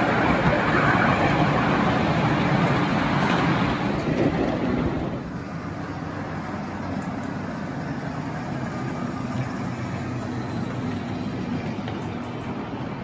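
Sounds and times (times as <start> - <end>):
locomotive engine running: 0.0 - 13.0.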